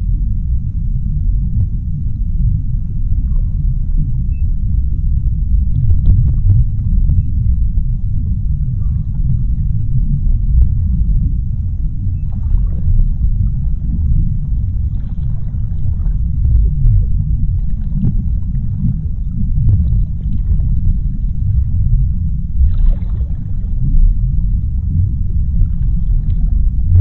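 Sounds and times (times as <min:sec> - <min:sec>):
deep underwater rumble: 0:00.0 - 0:27.0.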